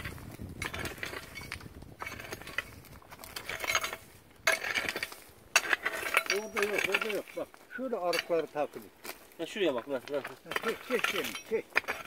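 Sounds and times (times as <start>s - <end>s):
hoe scraping stony soil: 0.0s - 12.0s.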